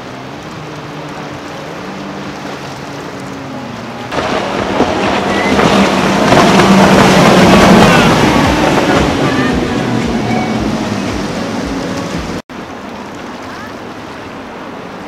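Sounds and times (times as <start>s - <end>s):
outboard boat engines: 0.0s - 15.0s
water rushing: 0.0s - 15.0s.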